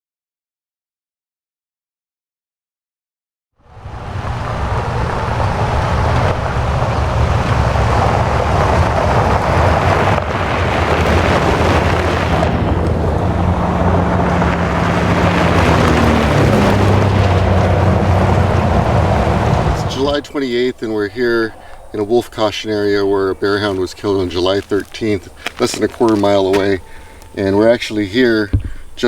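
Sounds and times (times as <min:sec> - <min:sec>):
rushing road and wind noise: 0:03.6 - 0:29.0
low engine drone: 0:03.7 - 0:27.9.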